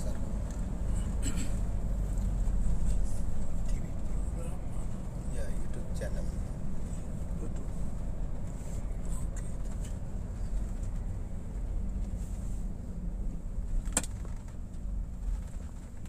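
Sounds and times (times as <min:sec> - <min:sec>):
vehicle cabin engine rumble: 0:00.0 - 0:16.0.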